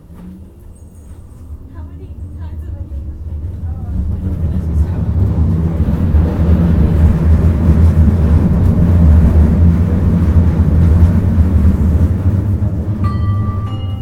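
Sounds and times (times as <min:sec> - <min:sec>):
tram running on track: 0:00.0 - 0:14.0.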